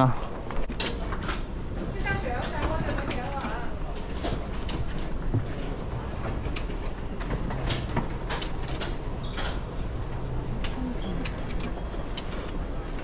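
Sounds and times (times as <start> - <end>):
automated gates clicking and knocking: 0.6 - 13.0.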